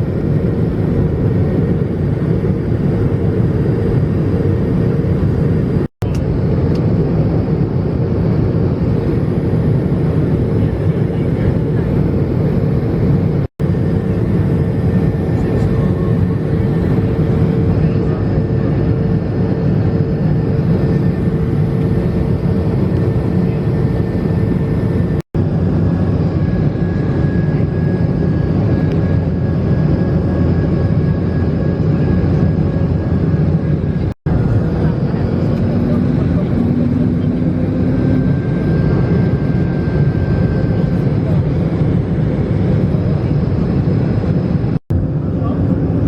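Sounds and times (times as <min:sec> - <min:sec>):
airflow and engine noise in cabin: 0:00.0 - 0:46.0.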